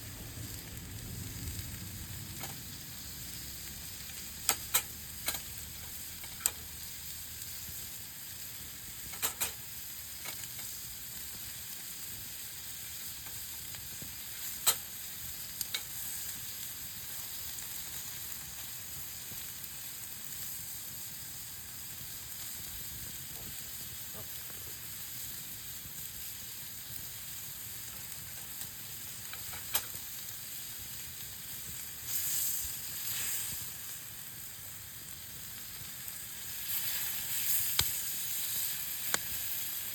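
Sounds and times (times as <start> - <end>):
meat sizzling over a campfire: 0.0 - 39.9.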